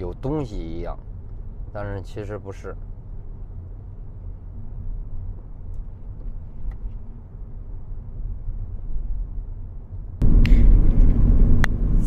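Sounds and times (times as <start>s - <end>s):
road rumble inside car: 0.0s - 12.0s.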